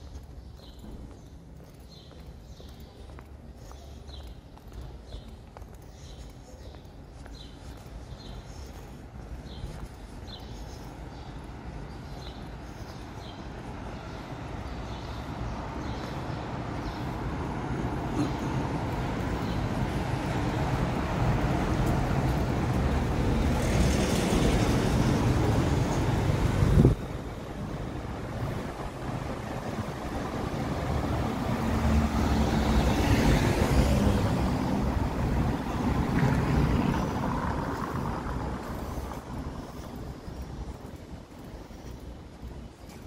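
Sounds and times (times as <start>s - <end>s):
vehicles passing: 0.0s - 43.0s.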